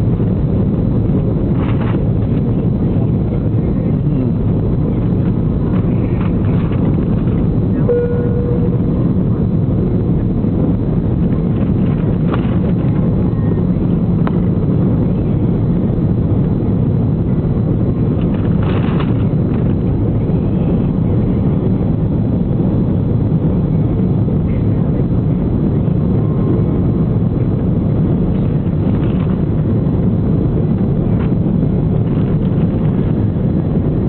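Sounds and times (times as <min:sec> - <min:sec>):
jet airliner cabin rumble: 0:00.0 - 0:34.0.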